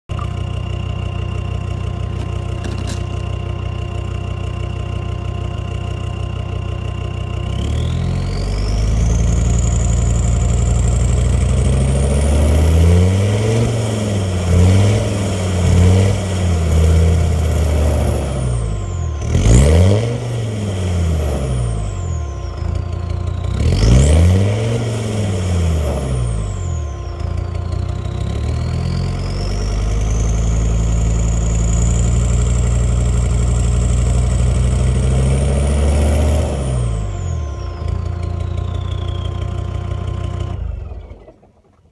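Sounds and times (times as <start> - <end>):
diesel engine idling and revving: 0.0 - 41.7
turbo whistle: 5.8 - 41.3.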